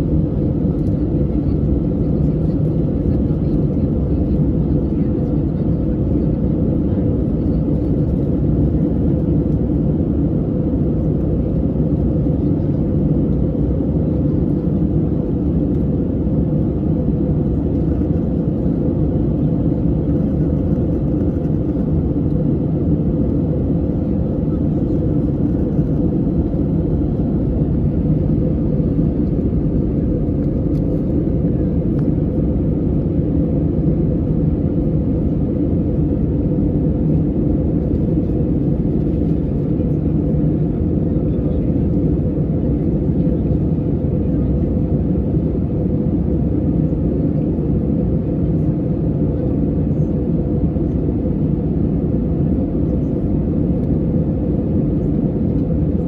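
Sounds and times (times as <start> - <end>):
aircraft cabin rumble: 0.0 - 56.0.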